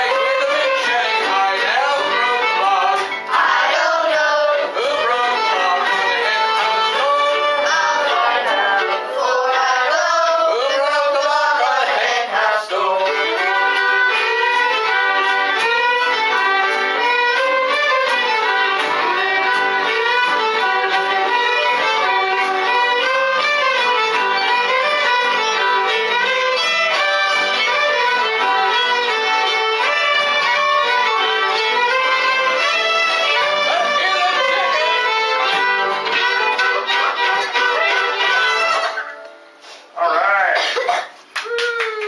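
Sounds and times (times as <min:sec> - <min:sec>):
fiddles playing bluegrass: 0:00.0 - 0:39.8.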